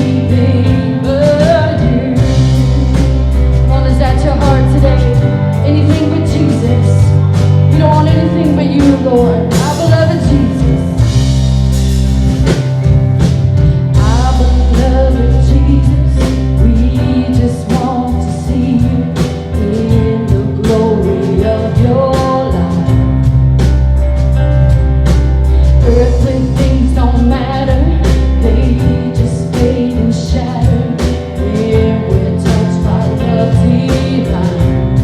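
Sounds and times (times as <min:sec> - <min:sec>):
person singing: 0:00.0 - 0:11.2, 0:13.8 - 0:23.3, 0:25.5 - 0:35.0
rock band playing: 0:00.0 - 0:35.0.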